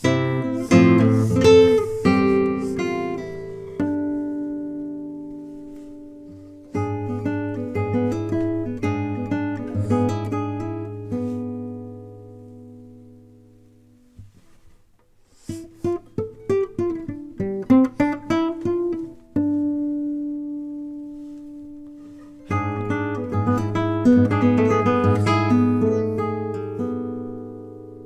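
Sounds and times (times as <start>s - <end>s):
classical guitar playing: 0.0s - 28.0s.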